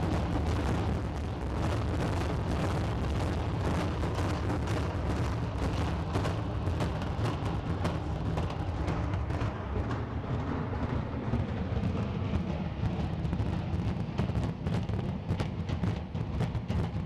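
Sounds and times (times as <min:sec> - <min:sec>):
deep rumble of collapse: 0:00.0 - 0:15.6.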